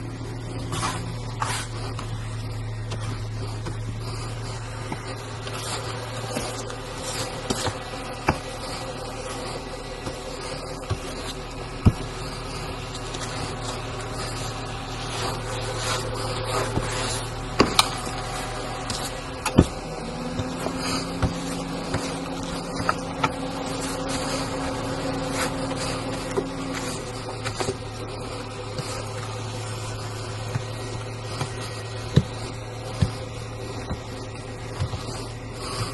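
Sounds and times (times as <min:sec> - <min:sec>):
car interior hum: 0:00.0 - 0:35.9
higher steady hum: 0:00.0 - 0:35.9.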